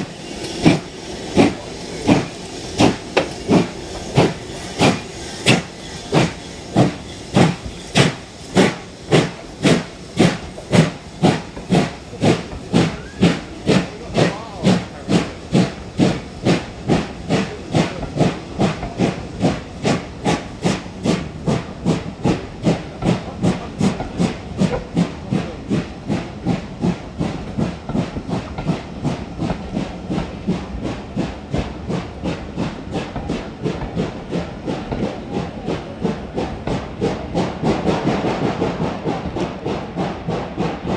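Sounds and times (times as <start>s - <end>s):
steam hissing: 0.0s - 40.9s
steam locomotive exhaust beats: 0.0s - 40.9s.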